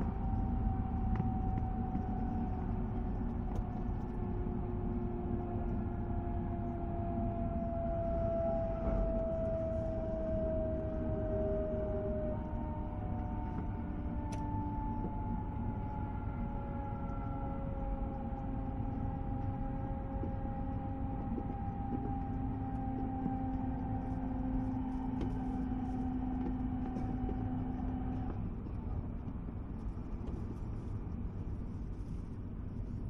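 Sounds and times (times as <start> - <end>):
rumble of wheels on rail: 0.0 - 33.0
train inverter whine: 0.0 - 33.0.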